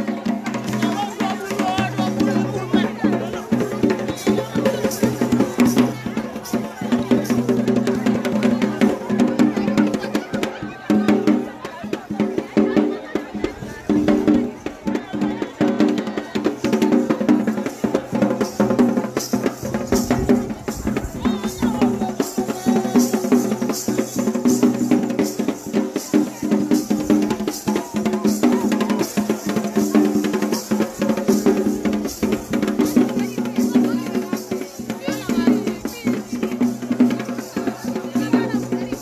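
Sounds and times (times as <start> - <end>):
drums beating fast rhythm: 0.0 - 39.0.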